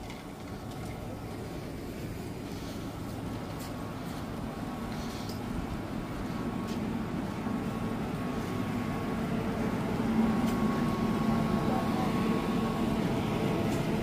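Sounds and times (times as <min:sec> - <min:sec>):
stationary train humming: 0:00.0 - 0:14.0.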